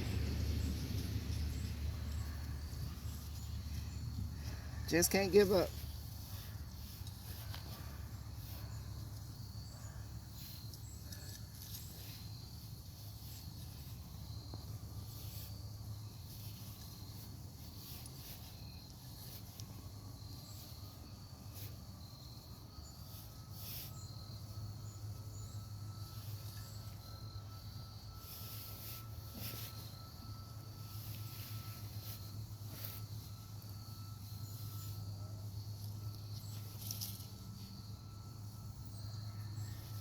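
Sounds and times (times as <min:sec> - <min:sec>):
insects trilling: 0:00.1 - 0:40.0.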